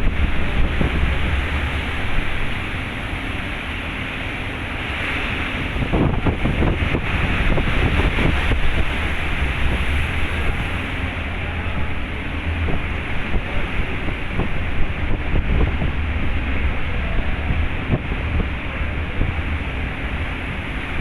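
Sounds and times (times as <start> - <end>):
waves surging: 0.0 - 21.0
wind buffeting microphone: 0.0 - 21.0.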